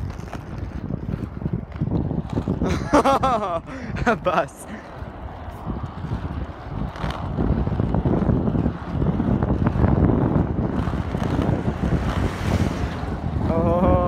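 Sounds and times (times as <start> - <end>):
skateboard wheels rolling on asphalt: 0.0 - 14.0
wind buffeting microphone: 0.0 - 14.0.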